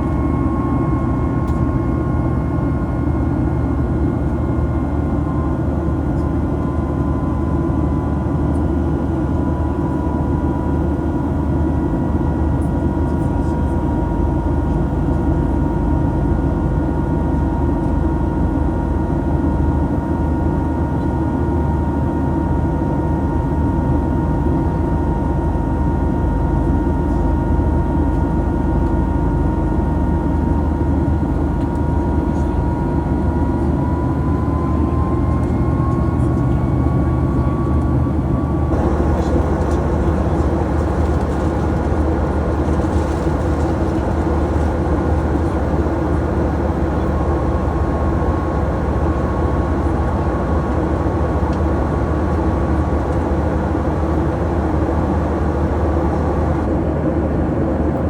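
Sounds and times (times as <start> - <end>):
jet engine cabin rumble: 0.0 - 58.0
jet engine whine: 0.0 - 58.0.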